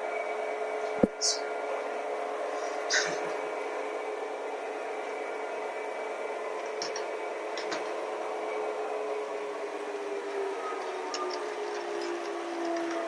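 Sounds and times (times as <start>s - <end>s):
model locomotive diesel hum: 0.0s - 13.0s.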